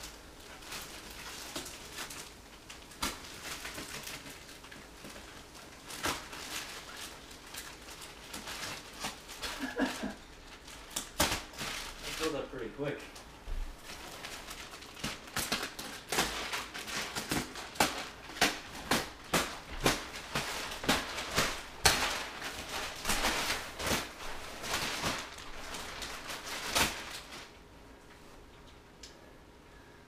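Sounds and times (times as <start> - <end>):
plastic wrapping crinkling: 0.0 - 28.5.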